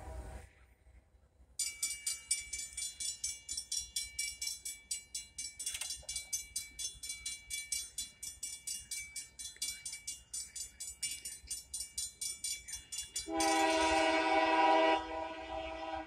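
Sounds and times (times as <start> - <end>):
railroad crossing bell ringing: 1.6 - 16.0.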